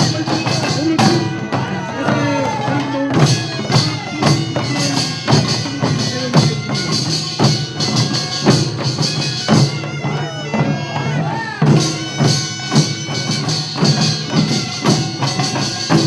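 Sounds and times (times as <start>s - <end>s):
percussion band beats: 0.0s - 16.0s.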